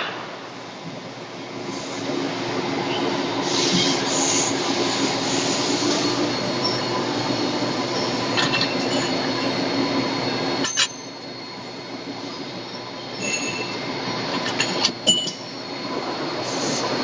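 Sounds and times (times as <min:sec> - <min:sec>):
lathe machine humming: 0:00.5 - 0:17.0.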